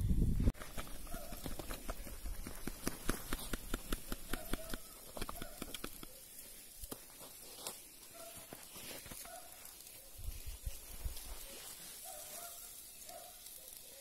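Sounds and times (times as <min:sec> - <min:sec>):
grill fire crackling: 0:00.2 - 0:14.0
faint hiss: 0:01.9 - 0:14.0.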